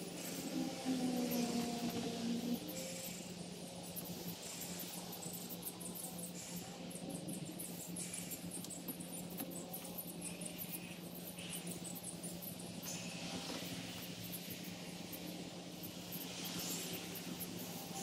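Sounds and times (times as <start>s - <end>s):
steady low hum: 0.0s - 18.0s
small birds chirping: 1.2s - 18.0s.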